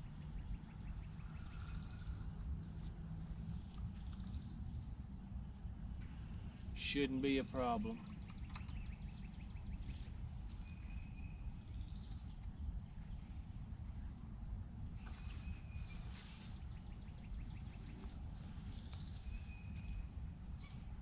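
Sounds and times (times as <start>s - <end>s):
steady low river rumble: 0.0s - 21.0s.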